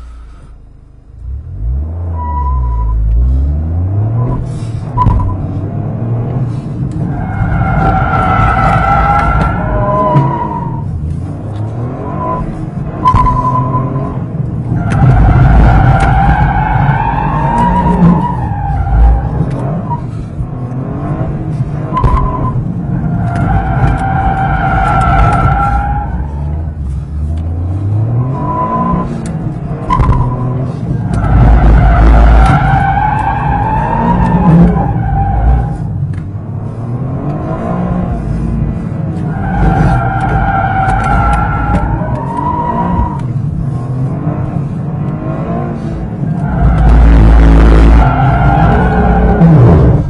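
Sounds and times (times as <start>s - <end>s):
car engine revving: 1.0s - 50.0s.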